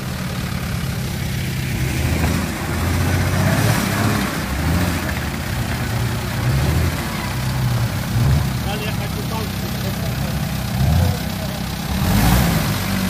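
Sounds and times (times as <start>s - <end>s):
off-road engine in mud: 0.0s - 13.0s.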